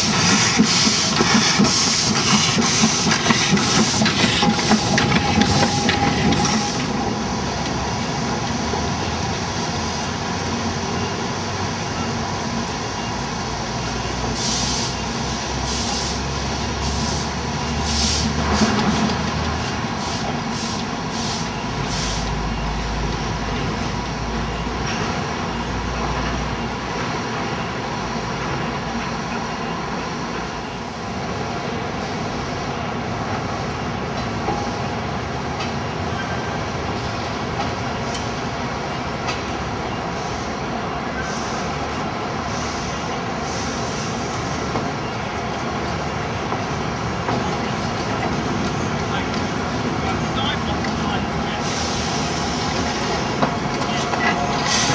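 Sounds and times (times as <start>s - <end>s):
steam locomotive exhaust beats: 0.0s - 11.4s, 12.4s - 31.0s, 31.9s - 54.9s
steam locomotive rolling: 0.0s - 54.9s.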